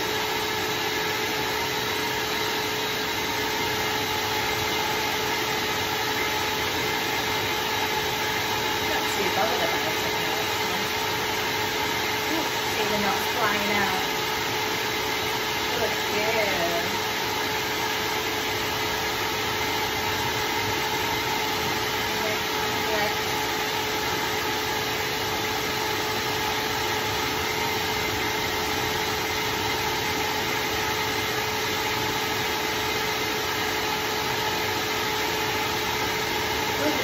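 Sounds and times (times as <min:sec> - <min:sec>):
pet dryer blowing air: 0:00.0 - 0:37.0.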